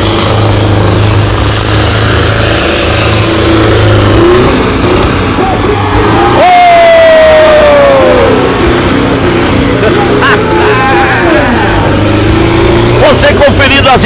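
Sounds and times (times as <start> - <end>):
tractor engines revving hard: 0.0 - 14.0.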